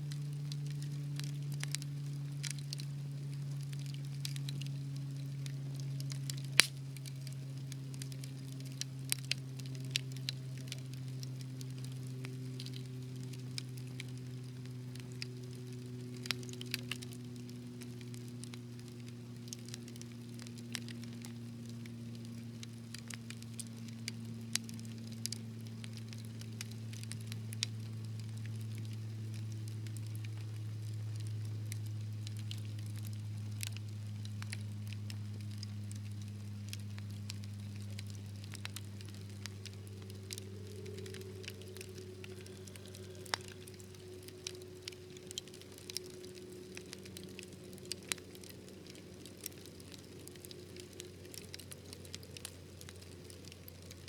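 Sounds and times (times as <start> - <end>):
wood fire crackling: 0.0 - 54.0
sharp pops and snaps: 0.1 - 54.0.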